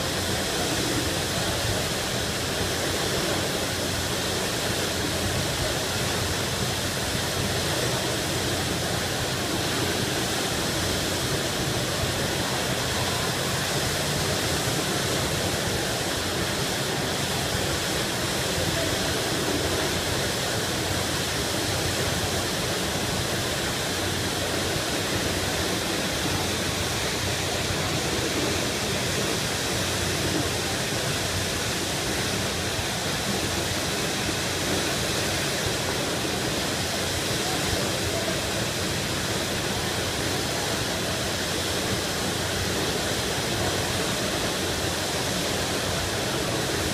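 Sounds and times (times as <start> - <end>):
water gushing from hydrant: 0.0 - 46.9.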